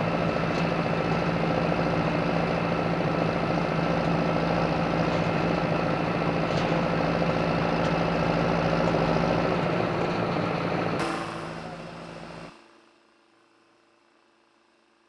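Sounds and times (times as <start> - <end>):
tractor diesel engine running: 0.0 - 12.5.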